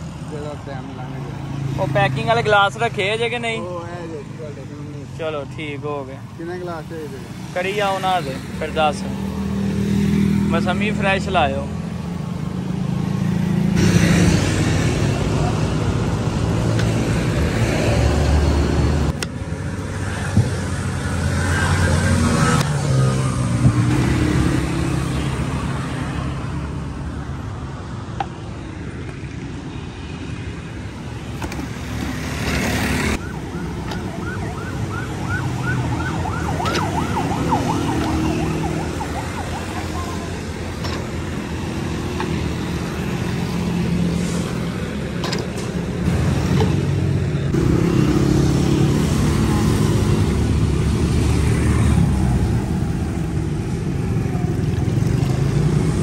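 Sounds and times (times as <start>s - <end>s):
road traffic engines: 0.0s - 56.0s.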